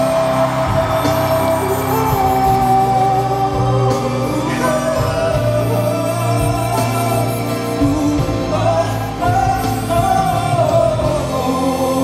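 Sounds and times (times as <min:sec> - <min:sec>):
band accompaniment: 0:00.0 - 0:12.0
man singing: 0:00.0 - 0:12.0.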